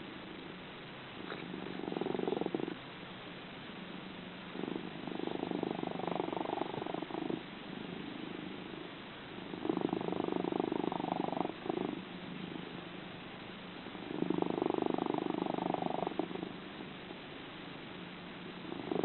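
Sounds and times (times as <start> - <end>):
cat purring: 0.0 - 2.8, 4.1 - 19.0.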